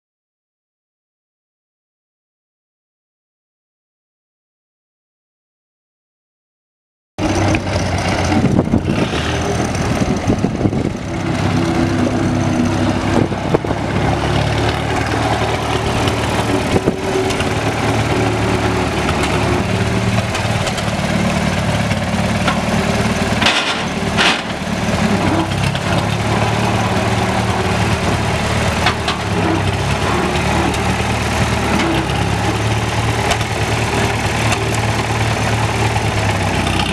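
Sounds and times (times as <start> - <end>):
tractor engine idling: 7.2 - 36.9.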